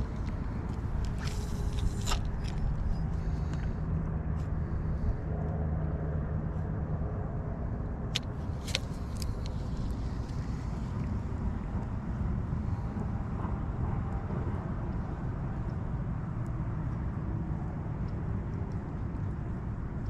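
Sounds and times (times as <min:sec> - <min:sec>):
faint steady hum: 0:00.0 - 0:20.0
wind rumbling on microphone: 0:00.0 - 0:20.0.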